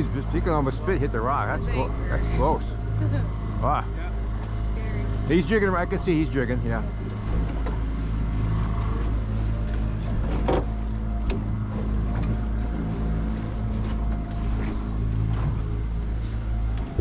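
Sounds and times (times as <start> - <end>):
boat motor droning: 0.0 - 17.0.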